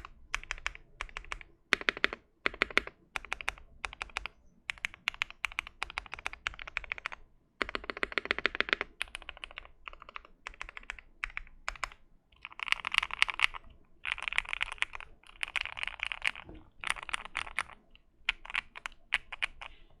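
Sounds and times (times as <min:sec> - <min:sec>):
mechanical keyboard fast typing: 0:00.0 - 0:19.7.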